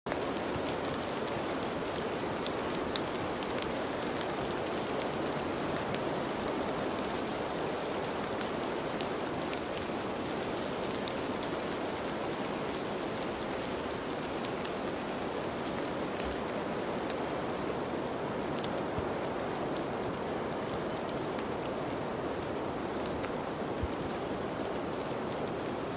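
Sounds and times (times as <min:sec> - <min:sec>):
steady rain falling: 0:00.1 - 0:25.9.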